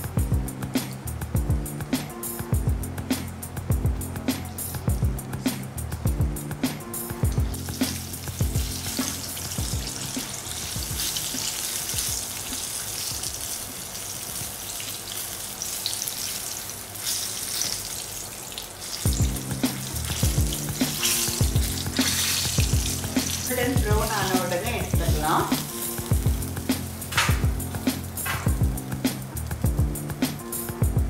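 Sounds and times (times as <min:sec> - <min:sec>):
background music: 0:00.0 - 0:13.5, 0:19.0 - 0:31.0
hot oil sizzling and crackling: 0:00.0 - 0:31.0.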